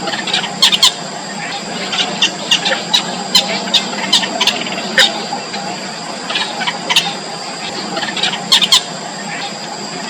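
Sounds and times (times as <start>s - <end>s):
bird chicks chirping: 0.0s - 10.0s
steady high whine: 0.0s - 10.0s.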